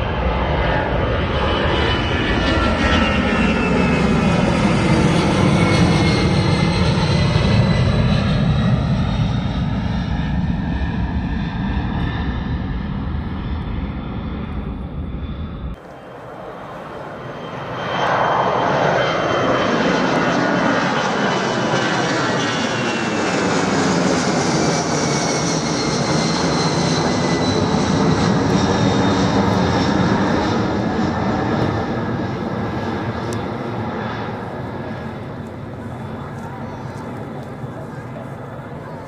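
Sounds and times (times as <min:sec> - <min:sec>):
jet plane taking off: 0:00.0 - 0:39.0
whining jet engines: 0:00.0 - 0:39.0.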